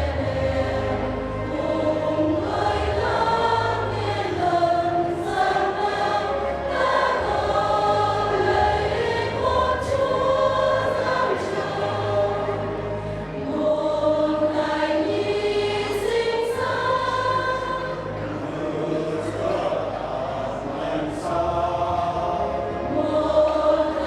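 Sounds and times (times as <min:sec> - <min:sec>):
church choir singing: 0:00.0 - 0:24.0
steady low bass accompaniment: 0:00.0 - 0:24.0.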